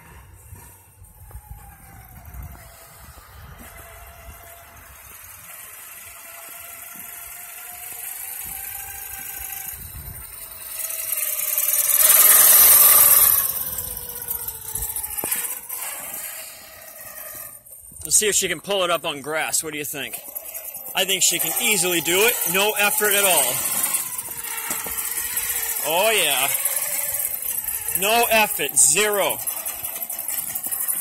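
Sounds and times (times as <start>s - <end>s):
electric motor whining: 0.0s - 18.2s, 19.7s - 31.0s
cart rolling over asphalt: 0.0s - 31.0s.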